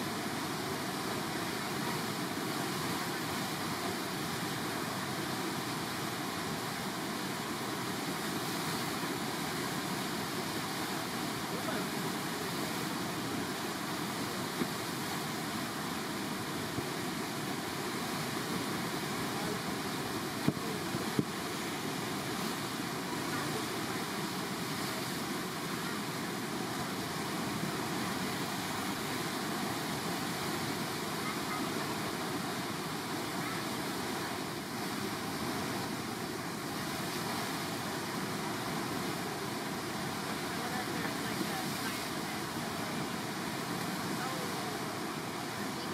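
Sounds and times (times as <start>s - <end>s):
whitewater rushing: 0.0s - 45.9s.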